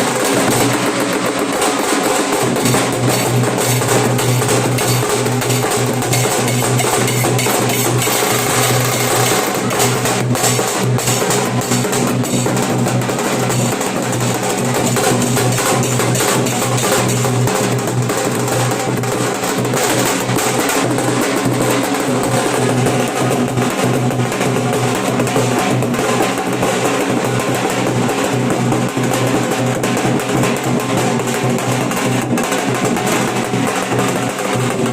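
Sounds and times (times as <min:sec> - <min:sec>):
dhol drumming with rapid rolls: 0:00.0 - 0:34.9.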